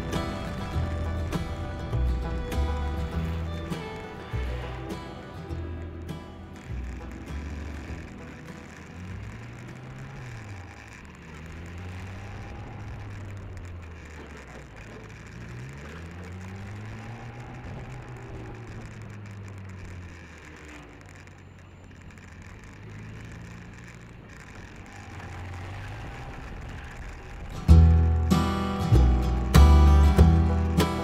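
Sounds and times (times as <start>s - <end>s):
motorcycle engine revving: 0.0s - 31.0s
road and wind noise: 0.0s - 31.0s.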